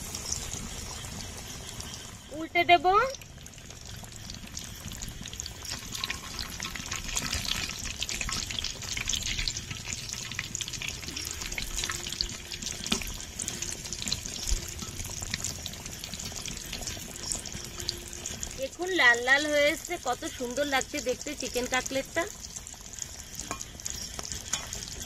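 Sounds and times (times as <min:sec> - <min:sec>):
chicken deep-frying in oil: 0:00.0 - 0:25.0.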